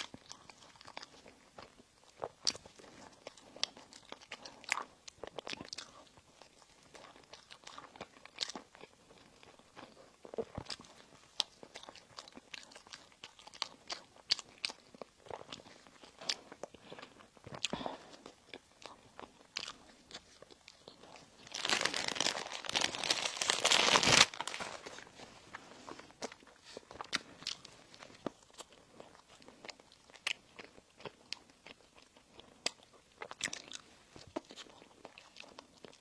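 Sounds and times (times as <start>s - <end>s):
dense crackling of pastry: 0.0s - 31.4s
bread biting and chewing: 0.0s - 36.0s.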